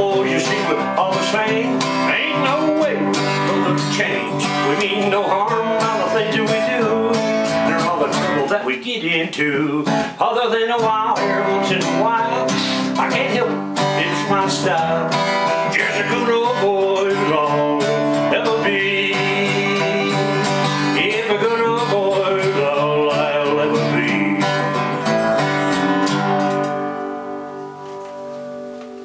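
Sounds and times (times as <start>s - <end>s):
person singing: 0.0s - 26.0s
acoustic guitar strumming: 0.0s - 29.0s.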